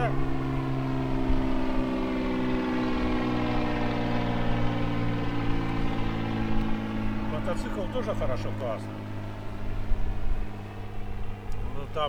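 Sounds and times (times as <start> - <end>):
motor engine droning hum: 0.0 - 12.0.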